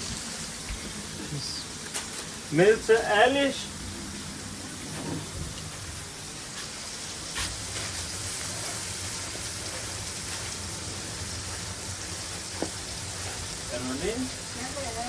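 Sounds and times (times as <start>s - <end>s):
patties sizzling on griddle: 0.0s - 15.0s.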